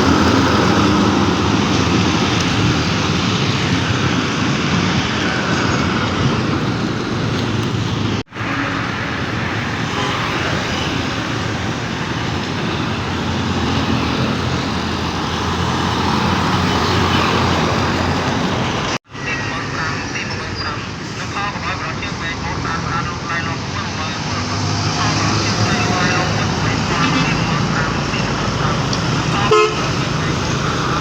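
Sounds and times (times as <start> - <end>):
diesel trucks on road: 0.0 - 31.0.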